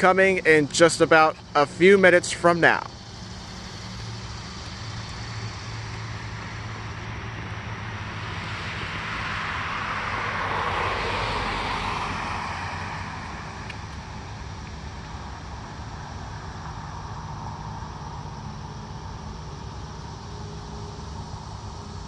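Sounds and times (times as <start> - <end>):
steady low hum: 0.0 - 22.0
car driving past: 2.6 - 22.0.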